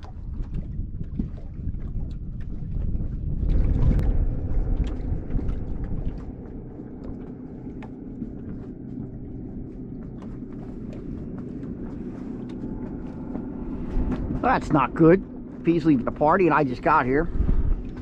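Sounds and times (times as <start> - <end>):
boat motor humming: 0.0 - 18.0
wind buffeting microphone: 0.0 - 18.0.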